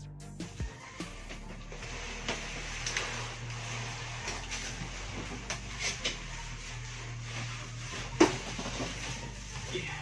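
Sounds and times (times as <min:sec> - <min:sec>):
packaging rustling and scraping: 0:01.6 - 0:10.0.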